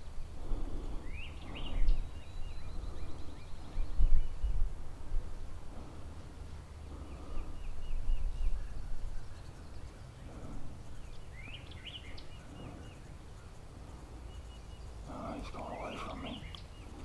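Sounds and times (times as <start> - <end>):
small birds calling: 0.0 - 17.0
wind rumble on microphone: 0.0 - 17.0.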